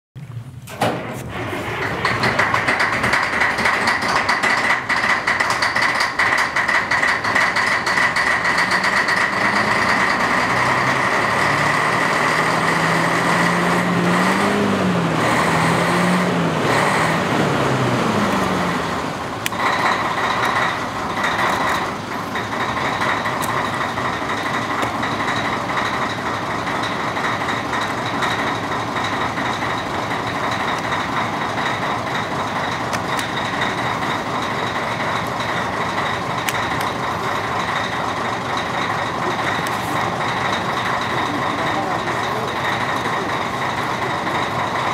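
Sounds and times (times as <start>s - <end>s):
diesel engine idling: 0.6s - 44.9s.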